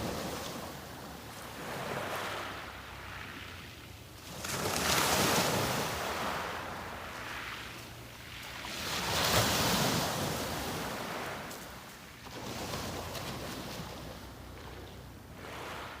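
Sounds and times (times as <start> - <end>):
waves breaking on a beach: 0.0 - 16.0.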